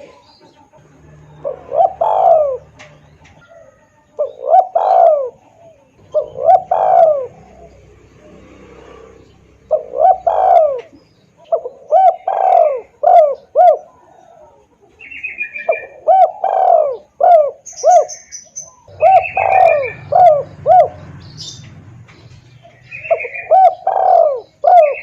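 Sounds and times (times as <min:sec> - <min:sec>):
dove cooing: 0:00.0 - 0:21.8, 0:22.6 - 0:25.0
bird chirps and trill: 0:00.2 - 0:25.0.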